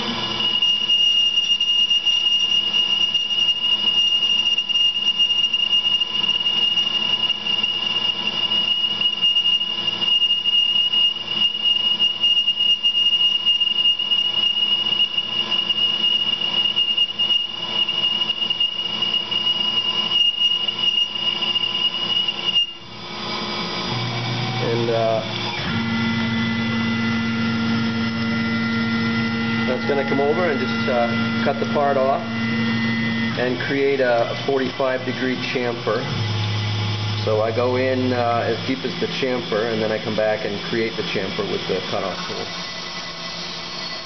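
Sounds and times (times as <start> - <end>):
boring bar high-pitched squeal: 0.0 - 44.0
machining and coolant noise: 0.0 - 44.0.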